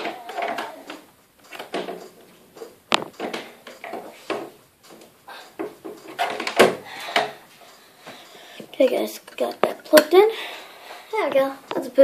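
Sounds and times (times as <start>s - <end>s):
lamp cord rustling and bumping: 0.0s - 10.2s.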